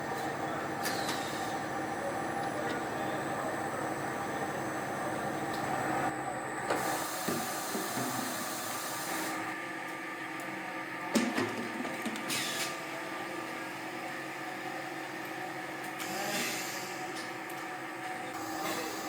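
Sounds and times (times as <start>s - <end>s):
factory machinery humming: 0.0s - 19.0s.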